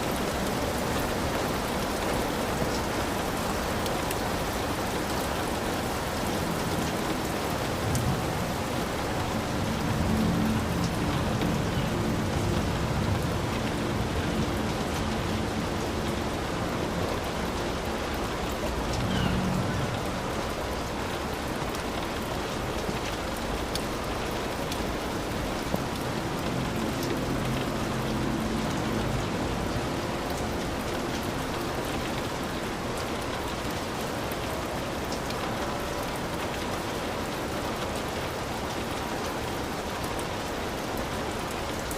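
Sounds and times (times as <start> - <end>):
heavy rain on a hut: 0.0 - 41.9.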